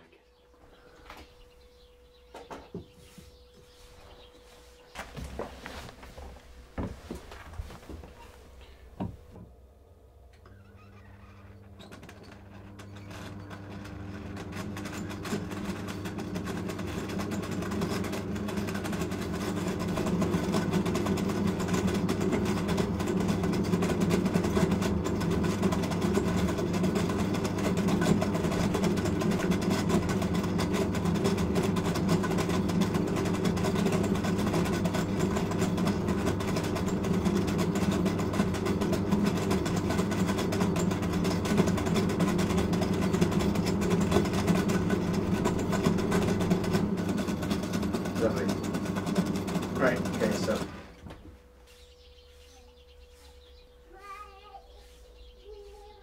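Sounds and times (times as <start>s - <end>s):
potter's wheel motor hum: 0.0s - 56.0s.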